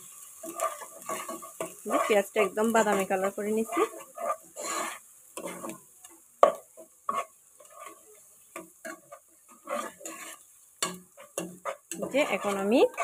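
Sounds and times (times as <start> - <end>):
oil sizzling: 0.0 - 13.0
spatula scraping a pot: 0.3 - 13.0.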